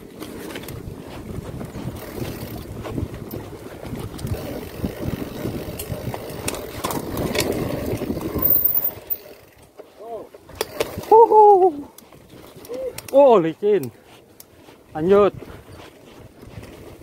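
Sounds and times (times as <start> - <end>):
bike rattling and knocking: 0.0 - 14.0
bike tyre rumble on dirt: 0.0 - 17.0.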